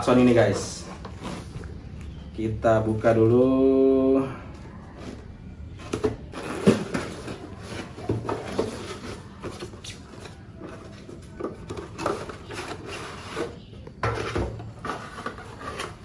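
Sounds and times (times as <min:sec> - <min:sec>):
cardboard rustling and scraping: 0:00.0 - 0:01.9, 0:05.0 - 0:16.0.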